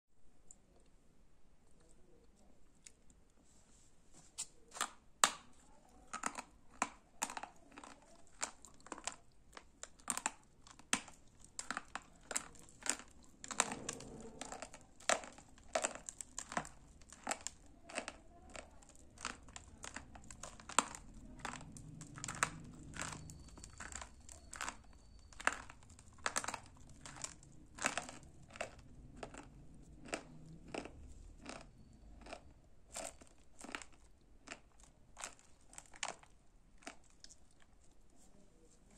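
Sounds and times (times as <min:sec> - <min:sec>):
clay being crunched by chewing: 0:04.4 - 0:37.9.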